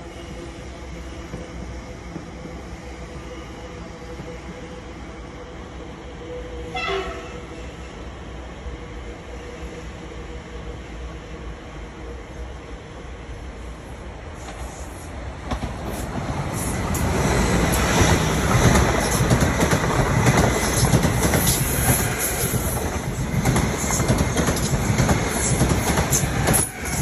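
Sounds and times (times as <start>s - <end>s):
train wheel and rail noise: 0.0s - 27.0s.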